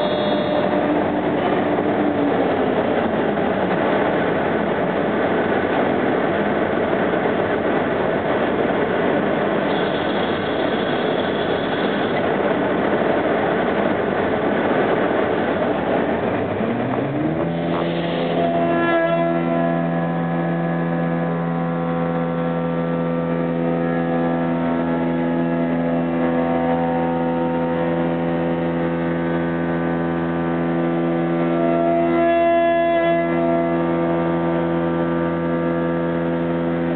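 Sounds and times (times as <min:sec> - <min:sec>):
cnc machine running: 0:00.0 - 0:07.0, 0:08.9 - 0:36.9.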